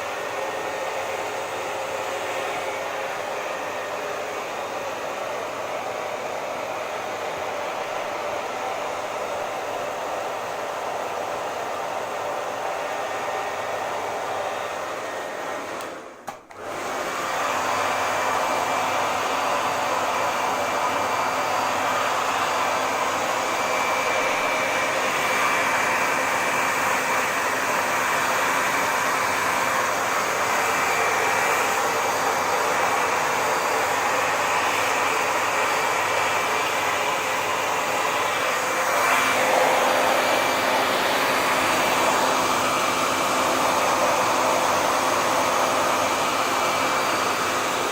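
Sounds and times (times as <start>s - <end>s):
hair dryer running: 0.0s - 47.9s.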